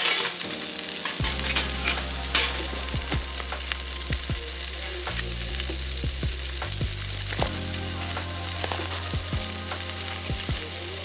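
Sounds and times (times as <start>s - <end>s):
sharp pops and crackles: 0.0s - 11.0s
vegetables frying hiss: 0.0s - 11.0s.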